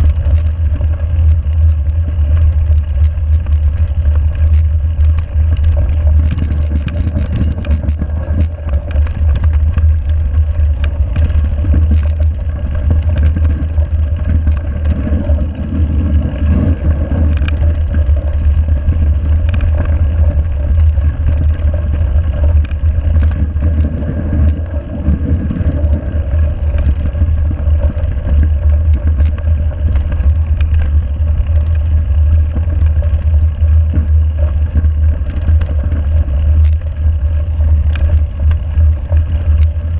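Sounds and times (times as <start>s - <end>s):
bike clicks and rattles: 0.0s - 39.9s
tyres rolling on snowy gravel: 0.0s - 39.9s
wind buffeting microphone: 0.0s - 39.9s.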